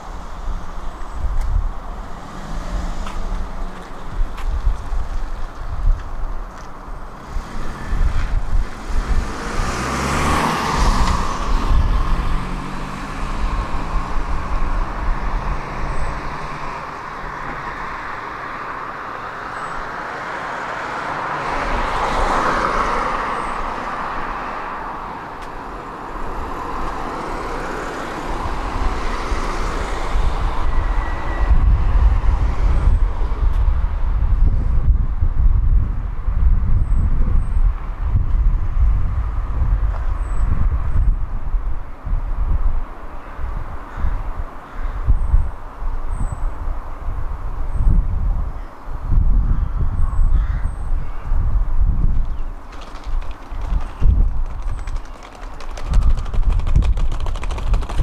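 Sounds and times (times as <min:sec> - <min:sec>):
cars passing by: 0:00.0 - 0:58.0.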